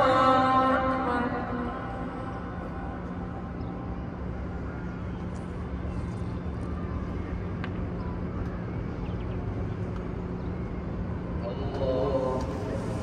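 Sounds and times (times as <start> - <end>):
constant low hum: 0.0 - 13.0
murmur of large crowd: 0.0 - 13.0.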